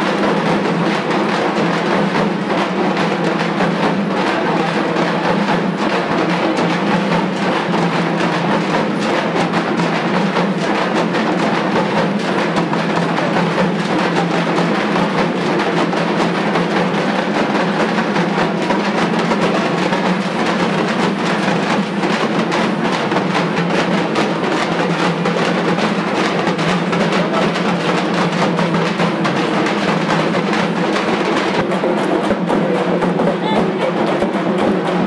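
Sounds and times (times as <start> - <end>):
frame drums beaten with sticks: 0.0 - 35.0.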